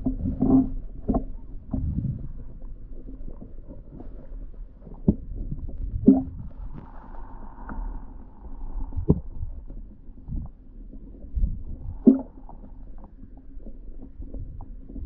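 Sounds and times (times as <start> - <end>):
low rumbling handling noise: 0.0 - 15.0.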